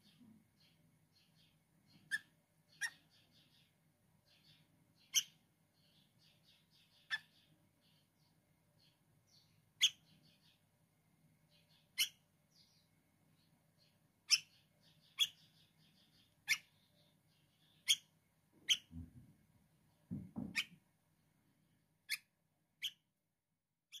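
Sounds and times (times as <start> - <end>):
fledgling bird chirping: 0.0 - 10.8, 11.4 - 21.3, 22.0 - 23.1.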